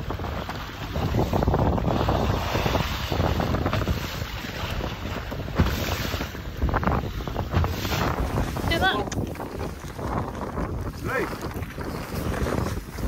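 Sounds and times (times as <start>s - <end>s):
sea water splashing: 0.0s - 13.0s
wind buffeting microphone: 0.0s - 13.0s.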